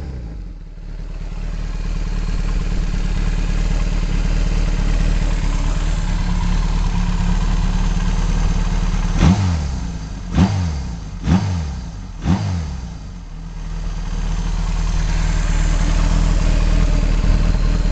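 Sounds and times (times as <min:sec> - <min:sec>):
motorcycle engine idling and revving: 0:00.0 - 0:17.9.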